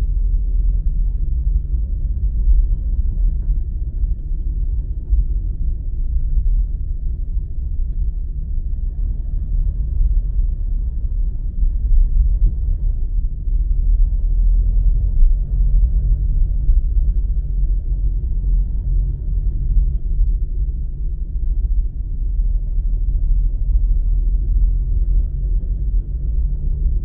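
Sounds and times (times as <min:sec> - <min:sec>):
car driving rumble: 0:00.0 - 0:27.0.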